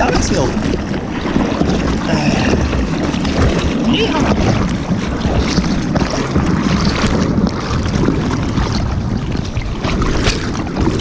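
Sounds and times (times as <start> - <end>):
water sloshing and splashing: 0.0 - 11.0
wind noise on microphone: 0.0 - 11.0.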